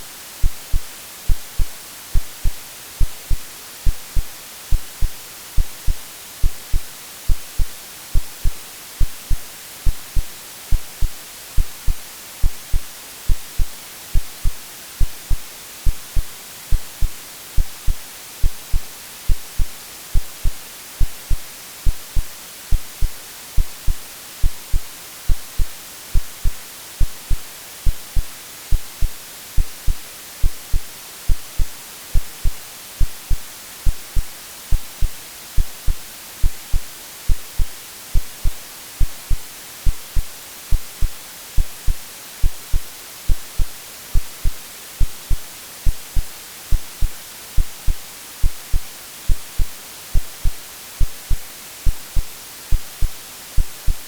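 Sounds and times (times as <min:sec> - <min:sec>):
white noise hiss: 0:00.0 - 0:54.0
heartbeat thumps: 0:00.4 - 0:54.0.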